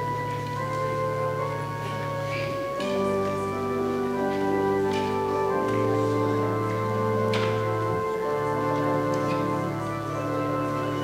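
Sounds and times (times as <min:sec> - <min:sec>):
organ playing held chords: 0:00.0 - 0:11.0.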